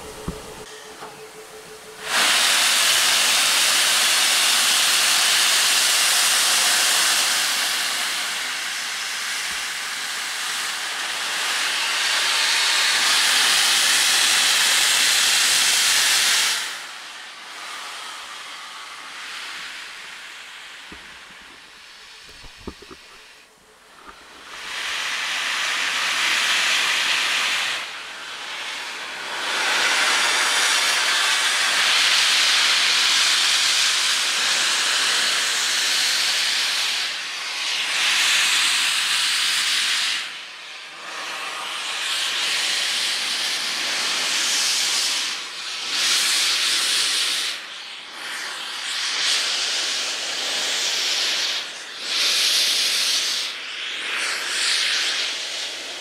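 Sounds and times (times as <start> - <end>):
steam locomotive venting steam hiss: 0.0 - 56.0.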